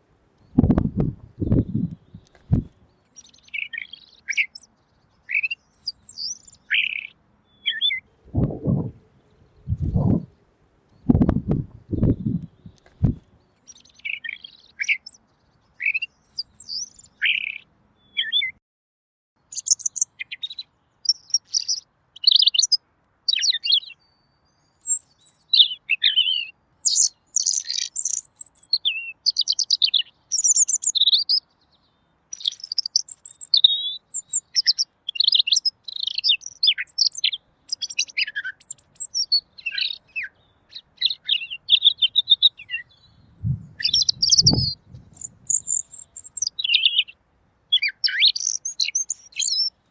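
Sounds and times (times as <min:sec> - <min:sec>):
bird singing warbled phrases: 0:00.4 - 0:18.6, 0:19.4 - 0:49.8.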